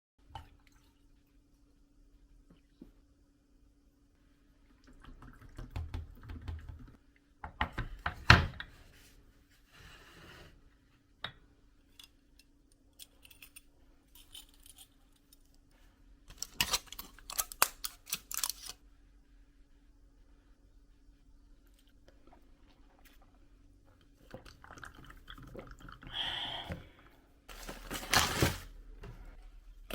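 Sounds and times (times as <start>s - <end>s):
faint steady hum: 0.2s - 29.9s.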